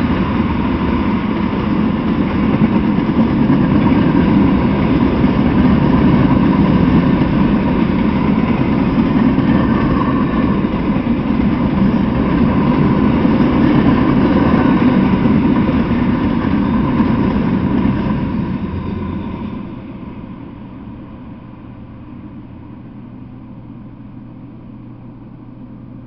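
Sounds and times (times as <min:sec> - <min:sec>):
freight train cars rolling past: 0:00.0 - 0:24.5.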